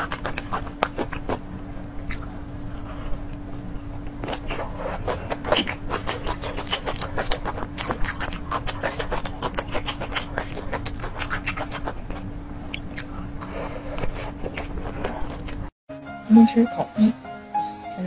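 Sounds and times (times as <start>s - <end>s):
faint steady hum: 0.0s - 15.7s
wet chewing clicks and smacks: 0.0s - 15.7s.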